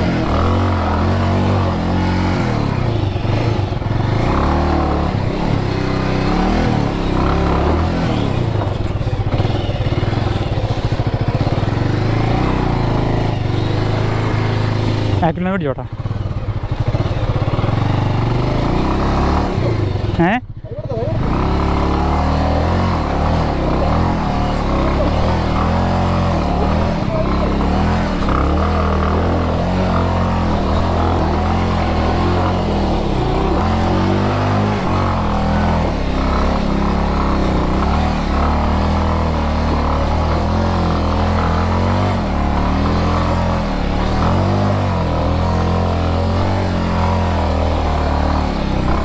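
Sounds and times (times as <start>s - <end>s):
motorcycle engine straining uphill: 0.0s - 49.0s.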